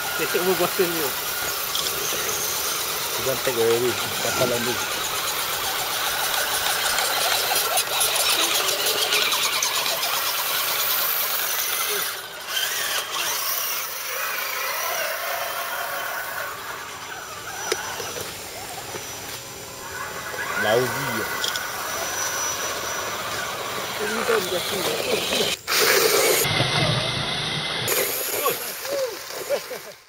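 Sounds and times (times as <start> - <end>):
electric motors whining: 0.0 - 30.0.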